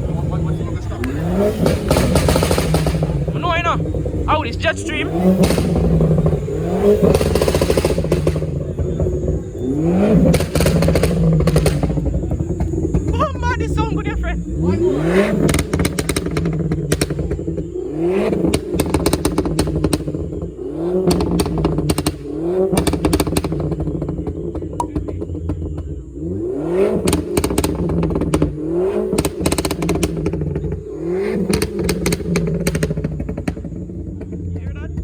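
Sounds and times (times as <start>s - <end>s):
car engine revving: 0.0s - 35.0s
exhaust crackling: 0.0s - 35.0s.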